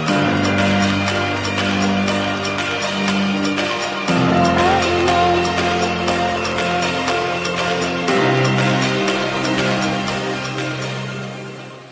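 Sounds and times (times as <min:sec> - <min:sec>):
background music with held chords: 0:00.0 - 0:11.9.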